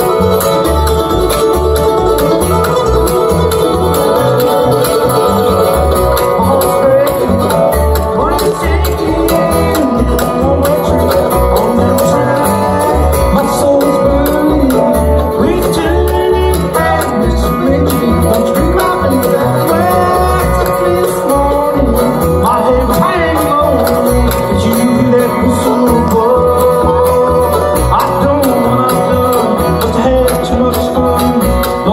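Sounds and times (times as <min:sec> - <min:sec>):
acoustic guitar: 0:00.0 - 0:31.9
mandolin: 0:00.0 - 0:31.9
resonator guitar sliding notes: 0:00.0 - 0:31.9
upright bass plucking: 0:00.0 - 0:31.9.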